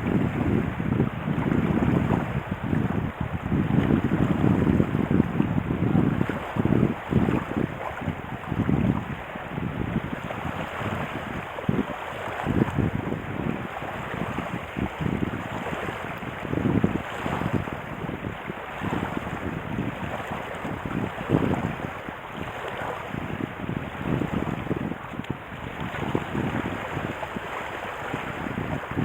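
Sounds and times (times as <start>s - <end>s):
rushing water: 0.0s - 29.0s
wind buffeting microphone: 0.0s - 29.0s.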